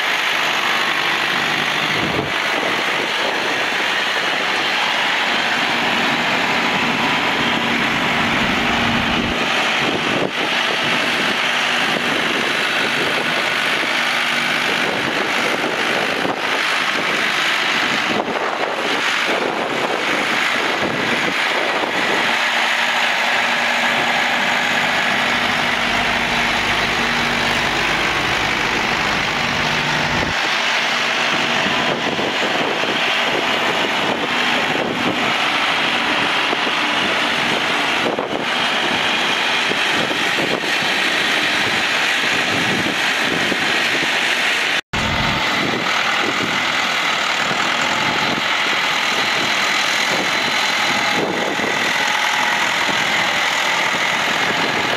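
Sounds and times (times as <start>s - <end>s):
tractor diesel engine idling: 0.0s - 54.9s.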